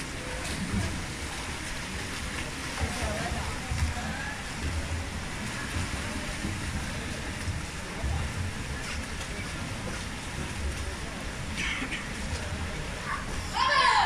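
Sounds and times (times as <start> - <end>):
swimmers splashing: 0.0 - 14.0.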